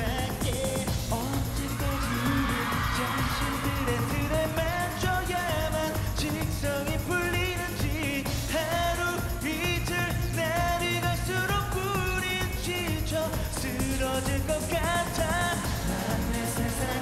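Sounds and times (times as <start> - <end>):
dance-pop backing track: 0.0 - 17.0
male group singing with vibrato: 0.0 - 17.0.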